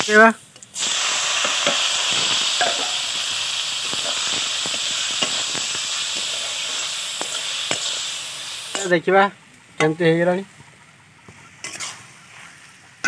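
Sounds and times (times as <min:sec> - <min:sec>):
chillies sizzling in hot oil: 0:00.0 - 0:13.0.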